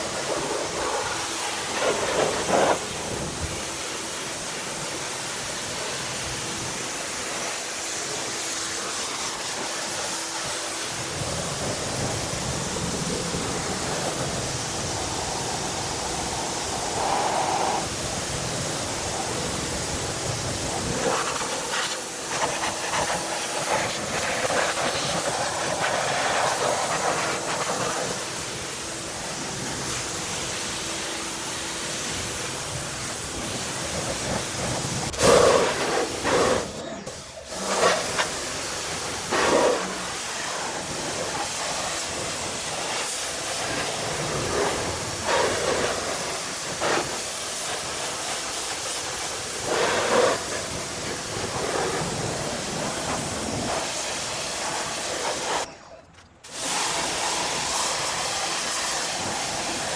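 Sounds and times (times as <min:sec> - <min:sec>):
pressure washer spray hissing: 0:00.0 - 0:55.7, 0:56.5 - 0:59.9.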